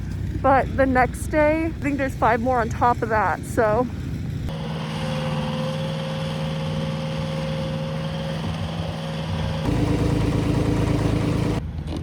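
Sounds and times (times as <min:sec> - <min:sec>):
vehicle engine running: 0:00.0 - 0:11.8
deep engine hum: 0:00.0 - 0:11.9.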